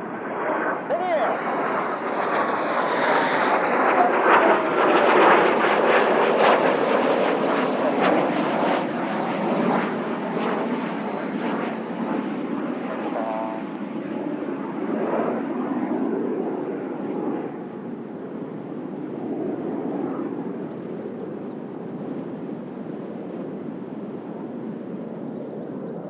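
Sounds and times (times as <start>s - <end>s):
jets roaring past: 0.0s - 26.0s.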